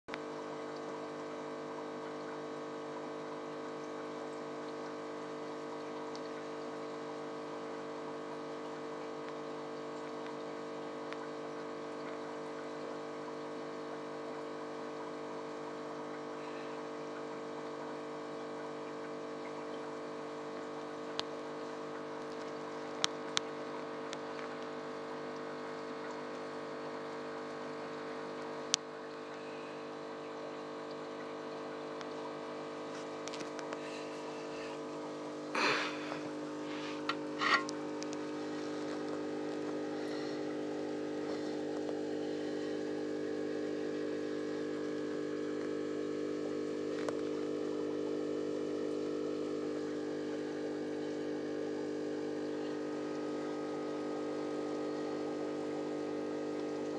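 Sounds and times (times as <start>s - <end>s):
aquarium pump humming: 0.1s - 56.9s.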